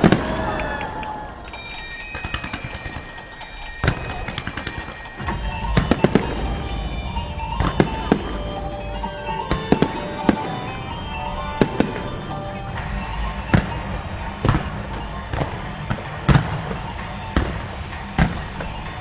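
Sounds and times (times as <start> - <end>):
fireworks bangs: 0.0 - 19.0
music playing: 0.0 - 19.0.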